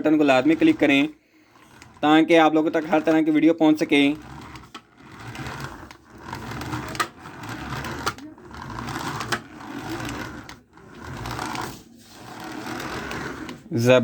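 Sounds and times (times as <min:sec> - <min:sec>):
toy electric motor whirring: 0:00.1 - 0:13.9.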